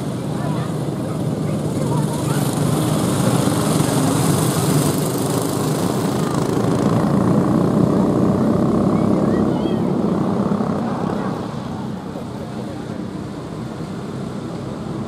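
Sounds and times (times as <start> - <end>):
go-kart engines droning: 0.0 - 15.0.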